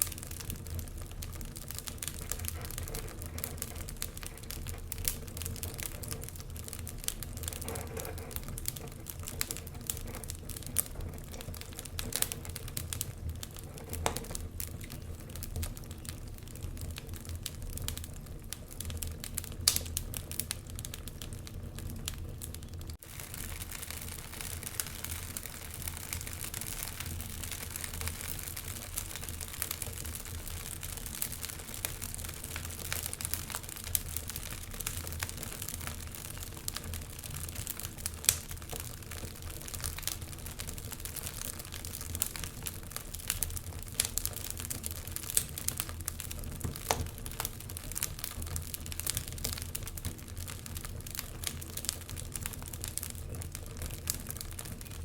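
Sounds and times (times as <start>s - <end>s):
sharp pops of fire: 0.0s - 55.0s
wood fire crackling: 0.0s - 55.0s.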